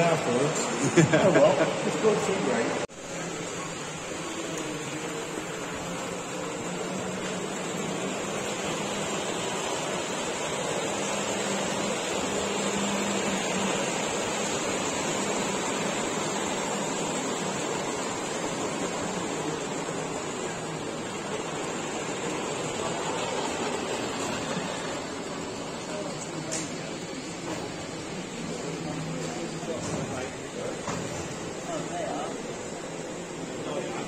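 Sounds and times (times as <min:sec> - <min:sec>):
exhibition hall background hiss: 0:00.0 - 0:34.0.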